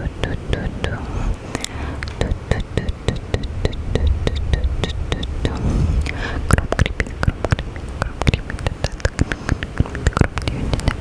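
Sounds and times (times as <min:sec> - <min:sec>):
low rumble: 0:00.0 - 0:11.0
wet mouth clicks and smacks: 0:00.2 - 0:11.0.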